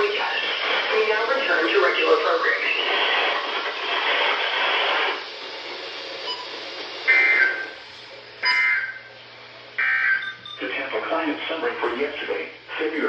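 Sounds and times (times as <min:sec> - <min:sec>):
broadcast audio with hiss: 0:00.0 - 0:13.0.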